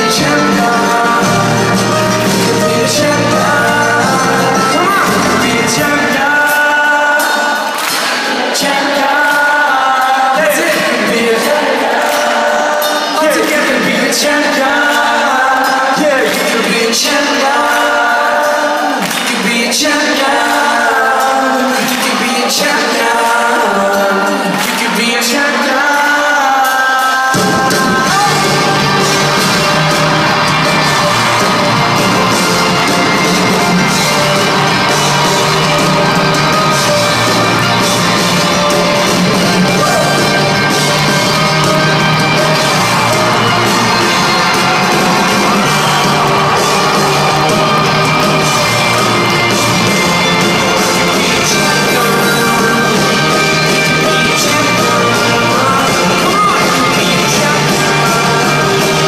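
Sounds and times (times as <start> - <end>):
crowd voices: 0.0 - 59.0
live rock band: 0.0 - 59.0
loud singing: 0.0 - 59.0.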